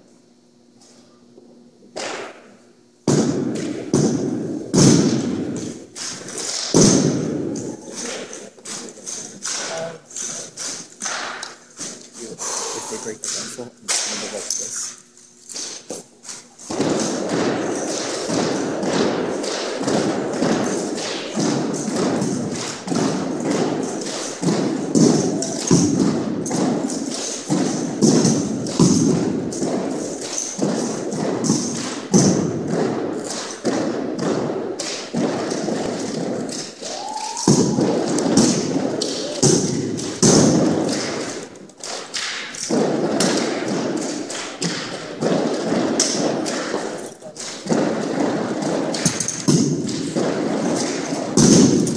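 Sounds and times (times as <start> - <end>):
drill rifles slapped and struck: 2.0 - 2.4, 3.0 - 12.0, 13.0 - 14.7, 15.5 - 51.9.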